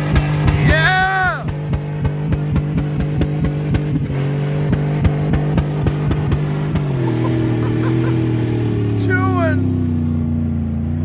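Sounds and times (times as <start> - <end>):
truck engine revving high: 0.0 - 11.0.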